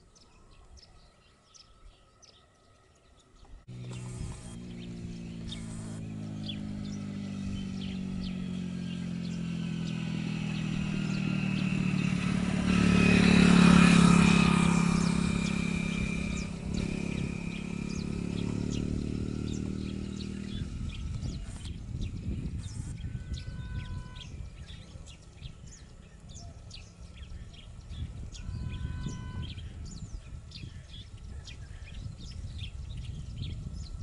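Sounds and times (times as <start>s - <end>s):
bird chirps: 0.0s - 34.0s
vehicle engine passing by: 3.6s - 31.3s.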